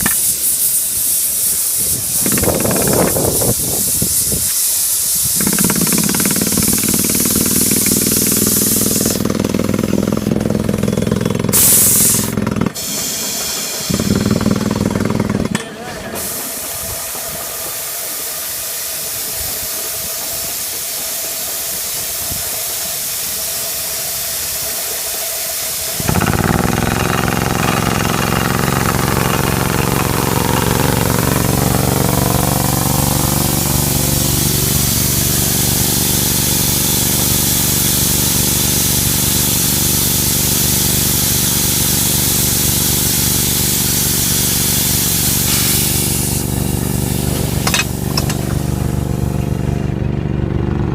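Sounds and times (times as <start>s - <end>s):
drilling machine hiss: 0.0s - 49.0s
engine-like hum: 0.0s - 50.9s.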